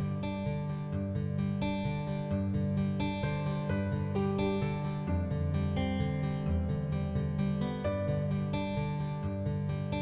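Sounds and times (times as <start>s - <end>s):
plucked string music: 0.0s - 10.0s.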